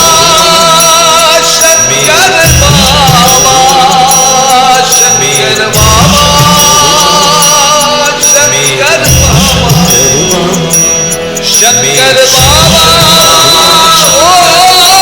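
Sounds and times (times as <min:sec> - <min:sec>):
jingle percussion ticking: 0:00.0 - 0:15.0.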